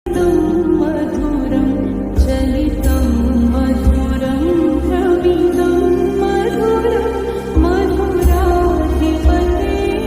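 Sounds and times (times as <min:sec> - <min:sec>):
gliding melody over low bass: 0:00.1 - 0:10.0.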